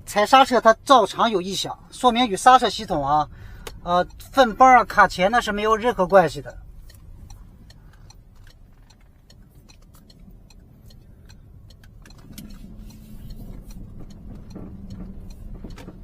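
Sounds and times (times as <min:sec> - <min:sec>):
road rumble in car: 0:00.0 - 0:16.0
suspension knocking: 0:02.4 - 0:16.0.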